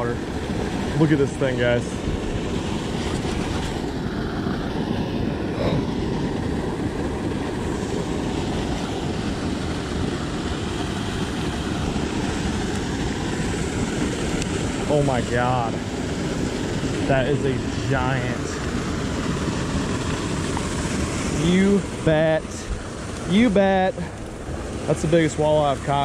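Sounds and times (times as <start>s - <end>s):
water pouring into pool: 0.1s - 26.0s.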